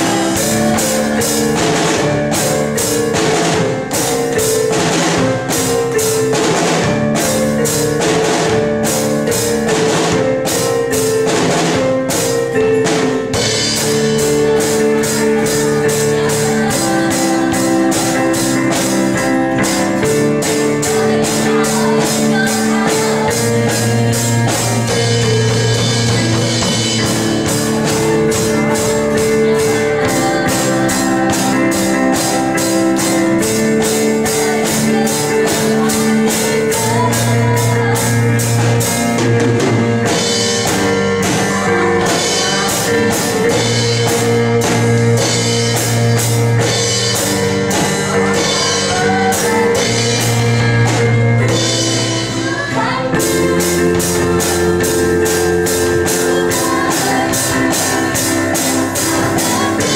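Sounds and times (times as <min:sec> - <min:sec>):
band playing instrumental song: 0:00.0 - 0:59.9
heavy drum hits: 0:00.0 - 0:59.9.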